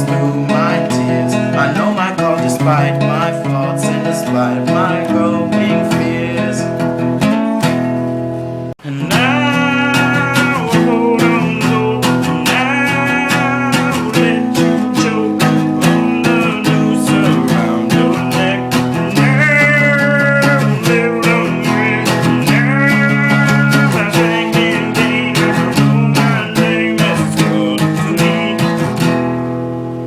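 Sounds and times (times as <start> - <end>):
person singing: 0.0 - 7.6, 8.8 - 29.3
acoustic guitar strumming: 0.0 - 30.0.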